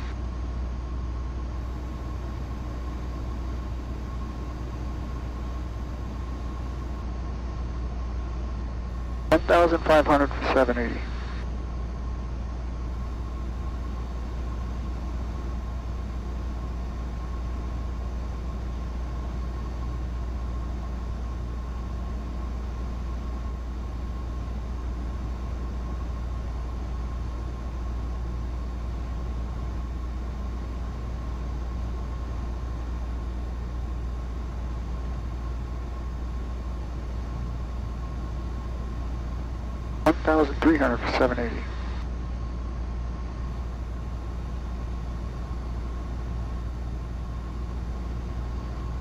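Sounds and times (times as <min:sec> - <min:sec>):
propeller plane engine drone: 0:00.0 - 0:49.0
faint thin whine: 0:01.4 - 0:49.0.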